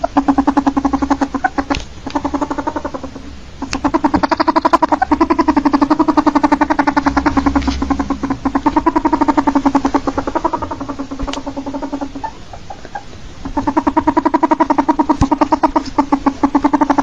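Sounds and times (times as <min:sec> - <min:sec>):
ferret chattering clucks: 0:00.0 - 0:17.0.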